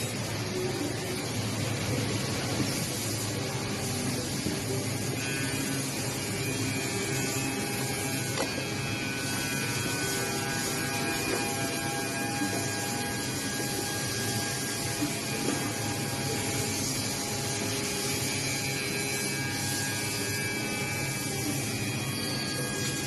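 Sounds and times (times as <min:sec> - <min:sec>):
machine mechanical hum: 0:00.0 - 0:23.0
spindle motors whining: 0:00.0 - 0:23.0.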